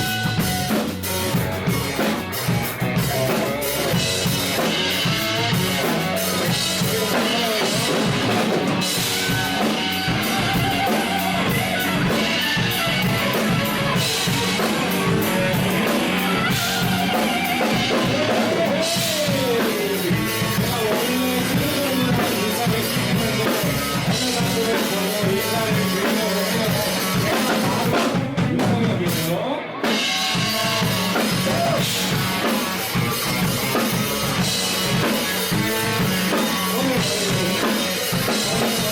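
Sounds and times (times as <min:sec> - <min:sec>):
drum kit beat: 0:00.0 - 0:38.9
guitar: 0:00.0 - 0:38.9
rock band playing live: 0:00.0 - 0:38.9.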